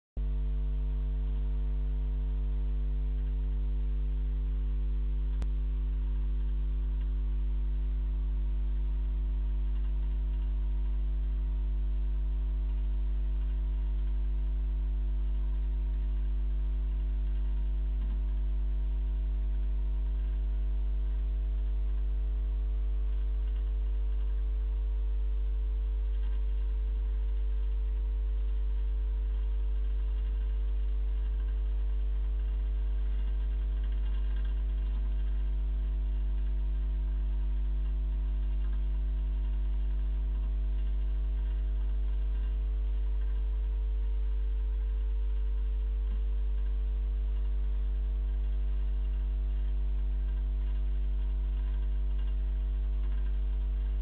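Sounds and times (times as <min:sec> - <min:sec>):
electrical mains hum: 0:00.2 - 0:54.0.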